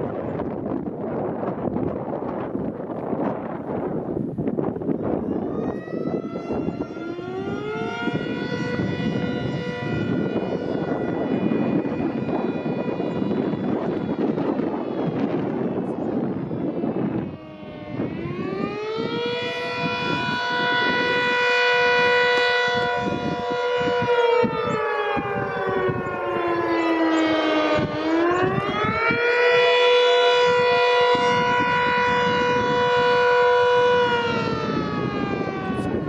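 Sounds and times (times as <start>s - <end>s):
air raid siren wailing: 0.0s - 36.0s.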